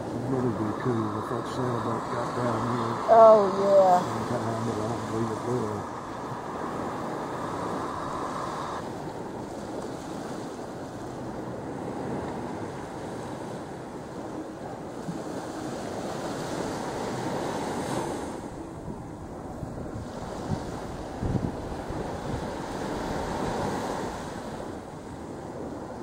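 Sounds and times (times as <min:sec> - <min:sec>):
ocean surf washing onto beach: 0:00.0 - 0:26.0
wind buffeting microphone: 0:00.0 - 0:26.0.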